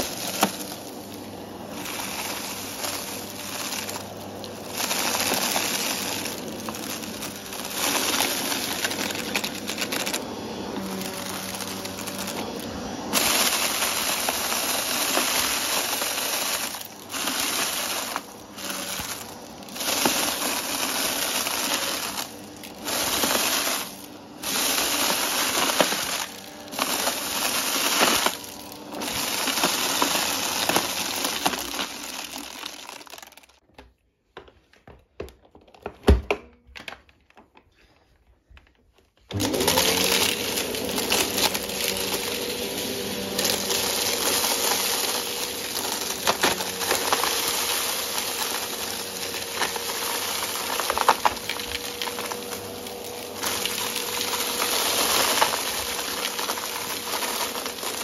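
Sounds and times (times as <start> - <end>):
upright vacuum running on carpet: 0.0 - 33.2, 39.3 - 58.0
debris rattling through vacuum: 0.0 - 33.6, 39.3 - 58.0.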